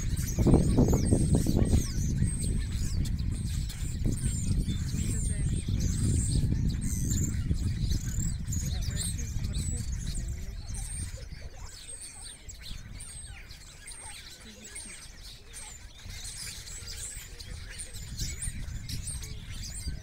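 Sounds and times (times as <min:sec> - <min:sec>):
songbirds chirping and whistling: 0:00.0 - 0:20.0.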